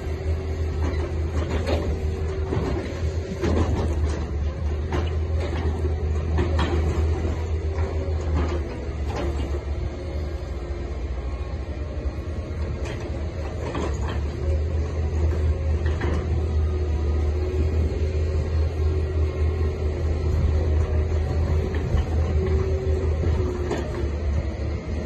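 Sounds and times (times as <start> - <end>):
excavator diesel engine drone: 0.0 - 25.0.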